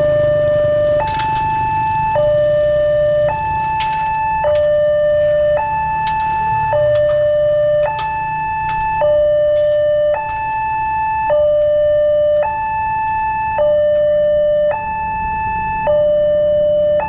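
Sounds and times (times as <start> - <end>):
two-tone electronic warning signal: 0.0 - 17.0.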